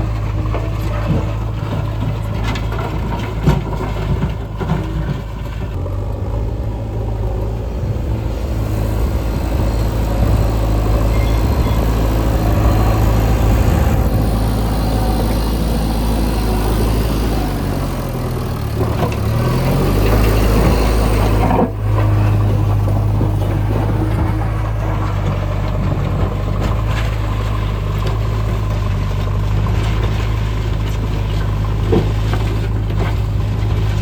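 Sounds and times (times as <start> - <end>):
diesel construction machinery running: 0.0 - 34.0.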